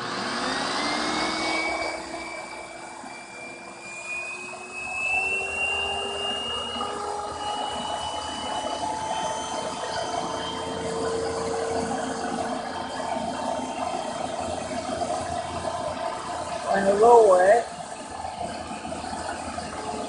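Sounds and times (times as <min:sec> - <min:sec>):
vacuum cleaner motor whine: 0:00.0 - 0:20.0.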